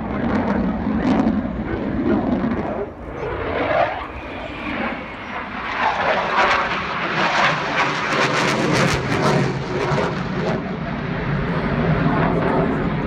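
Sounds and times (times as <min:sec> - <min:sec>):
fighter jet engines roaring: 0:00.0 - 0:13.0.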